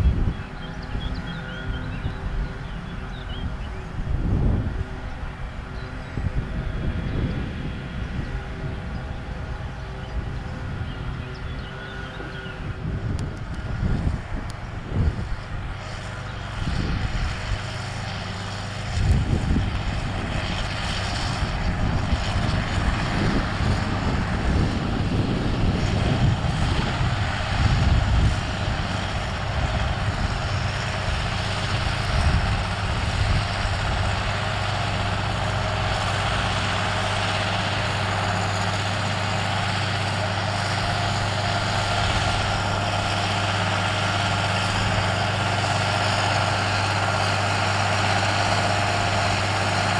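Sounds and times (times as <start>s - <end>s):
tractor diesel engine under load: 0.0s - 49.9s.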